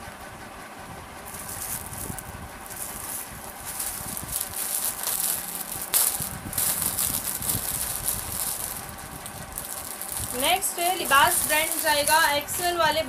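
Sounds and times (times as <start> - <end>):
garments rustling: 1.3 - 13.0.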